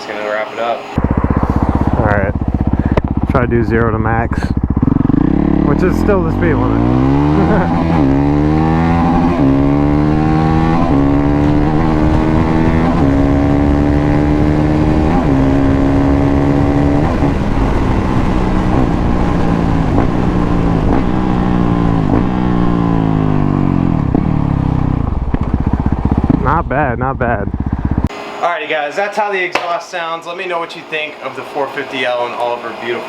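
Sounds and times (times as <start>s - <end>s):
motorcycle accelerating through gears: 0.9s - 28.1s.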